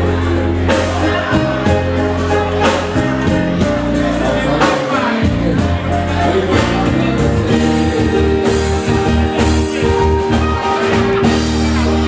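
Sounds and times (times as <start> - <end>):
man singing into microphone: 0.0 - 10.1
amplified bass-heavy music: 0.0 - 12.0.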